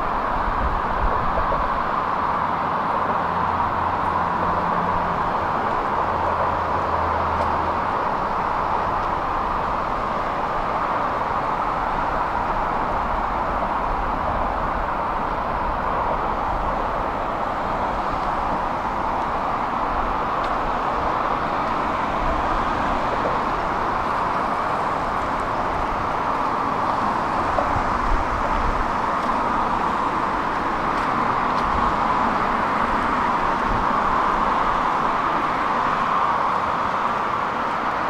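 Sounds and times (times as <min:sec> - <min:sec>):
road traffic tyre hiss: 0:00.0 - 0:38.0.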